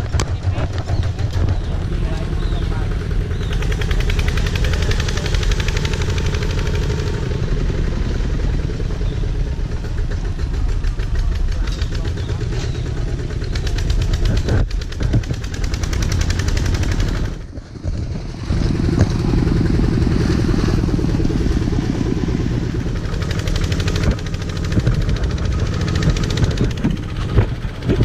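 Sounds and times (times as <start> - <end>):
tractor engine chugging: 0.0 - 28.0.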